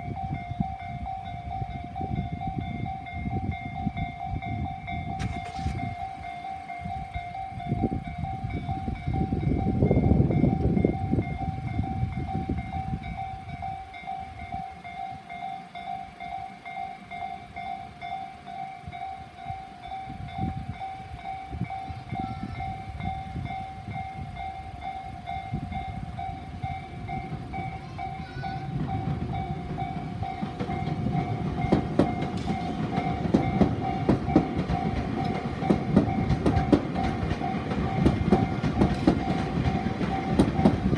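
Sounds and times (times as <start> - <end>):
level-crossing warning bell: 0.0 - 40.9
train rumble: 0.0 - 40.9
train wheel clacks: 0.6 - 40.9.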